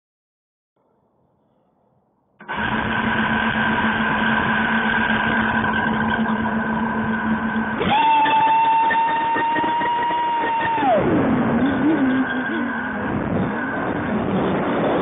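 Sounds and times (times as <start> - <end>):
propeller noise: 2.4 - 15.0
quadcopter motors humming: 2.4 - 15.0.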